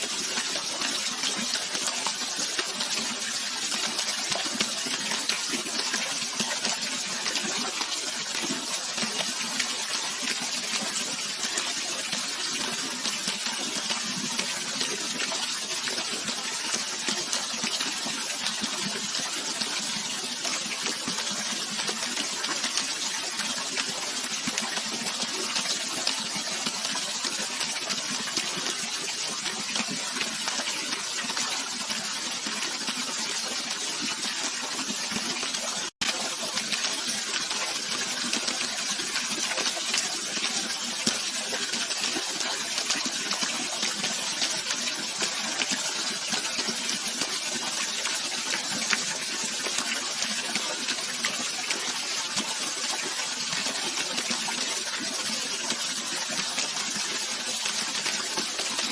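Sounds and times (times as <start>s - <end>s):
running water splashing: 0.0s - 58.9s.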